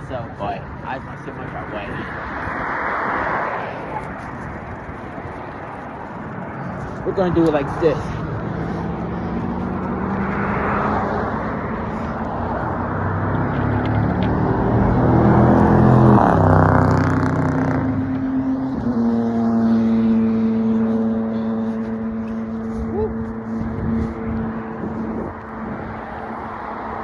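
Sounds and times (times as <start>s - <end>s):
steady engine hum: 0.0s - 27.0s
steady rushing noise: 0.0s - 27.0s
vehicle passing close: 0.0s - 27.0s.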